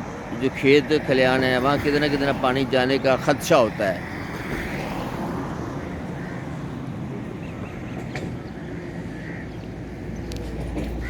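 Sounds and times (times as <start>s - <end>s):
traffic rumble on bridge: 0.0s - 11.0s.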